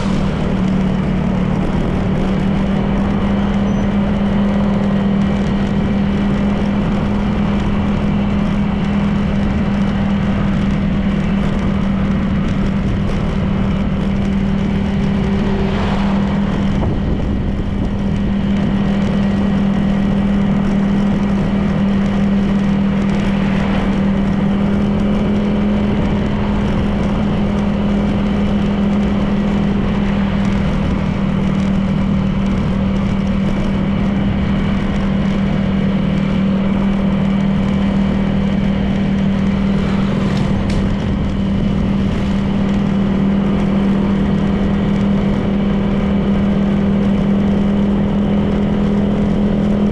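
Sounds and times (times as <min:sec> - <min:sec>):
scooter engine cruising: 0:00.0 - 0:49.9
wind and road noise: 0:00.0 - 0:49.9.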